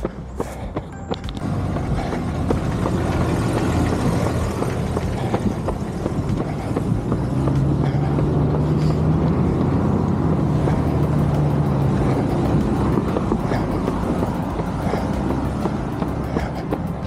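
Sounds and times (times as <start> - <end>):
vehicle driving past: 1.3 - 17.0.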